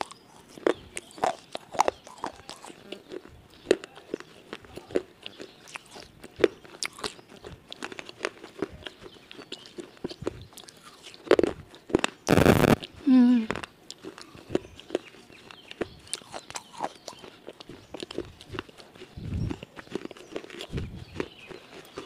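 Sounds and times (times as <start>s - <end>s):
chewing crispy fried chicken: 0.0s - 22.0s.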